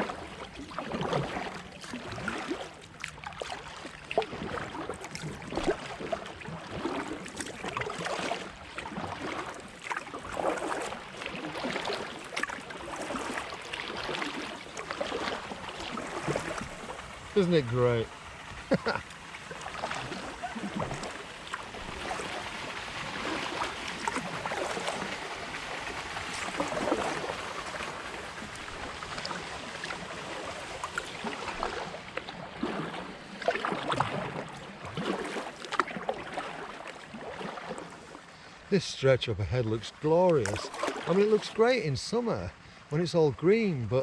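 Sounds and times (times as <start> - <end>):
paddle strokes in water: 0.0 - 44.0
small water splashes: 0.0 - 44.0.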